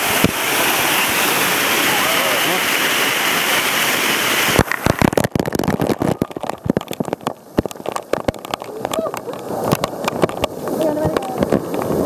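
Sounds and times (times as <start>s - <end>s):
water crackling on microphone: 0.0s - 12.0s
waterfall rushing: 0.0s - 12.0s.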